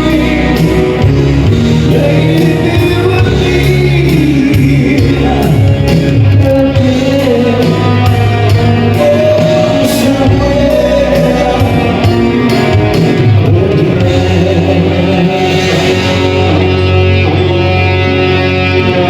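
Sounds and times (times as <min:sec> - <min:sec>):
electric guitar: 0:00.0 - 0:19.0
live band music: 0:00.0 - 0:19.0
person singing: 0:00.0 - 0:19.0
steady bass line: 0:00.0 - 0:19.0.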